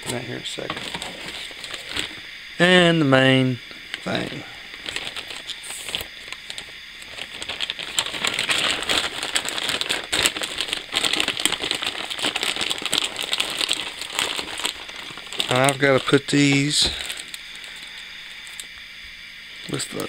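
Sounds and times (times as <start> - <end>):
plastic mailer bag crinkling: 0.4 - 2.3, 4.0 - 18.7.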